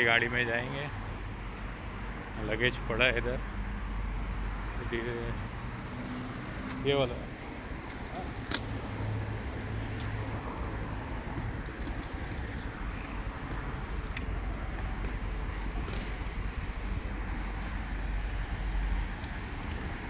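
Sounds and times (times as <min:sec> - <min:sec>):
car and street traffic rumble: 0:00.0 - 0:20.0.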